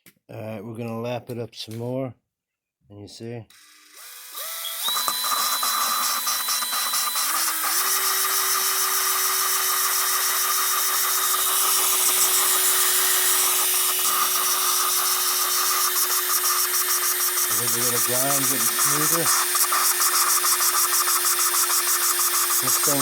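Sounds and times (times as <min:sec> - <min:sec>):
power drill running: 0:03.5 - 0:23.0
valve grinding in lapping paste: 0:03.5 - 0:23.0.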